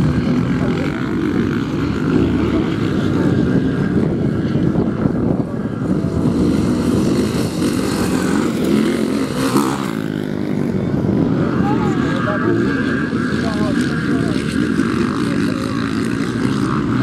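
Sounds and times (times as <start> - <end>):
dirt bike engines droning: 0.0 - 17.0.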